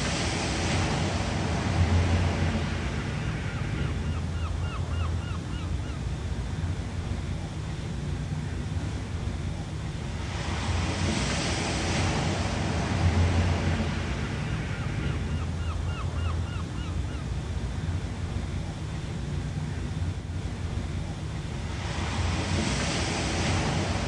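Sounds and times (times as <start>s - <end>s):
low rumble of surf: 0.0s - 24.0s
wave breaking and washing in: 0.0s - 24.0s.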